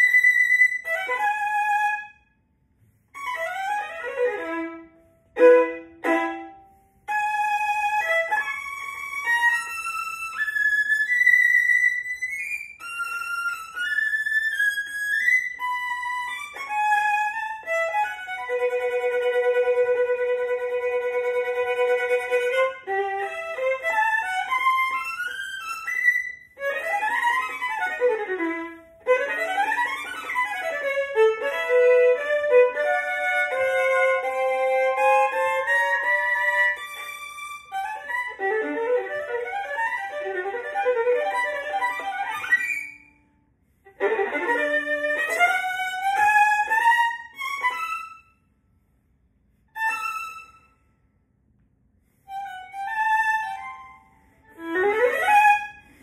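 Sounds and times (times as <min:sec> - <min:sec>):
solo violin playing: 0:00.0 - 0:48.4, 0:49.7 - 0:50.8, 0:52.2 - 0:56.0.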